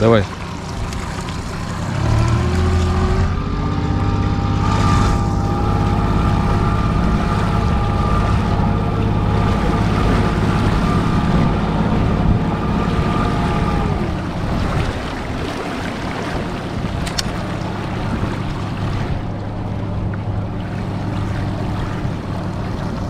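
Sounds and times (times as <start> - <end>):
motorboat engine running: 0.0 - 23.0
water rushing: 0.0 - 23.0
wind: 0.0 - 23.0.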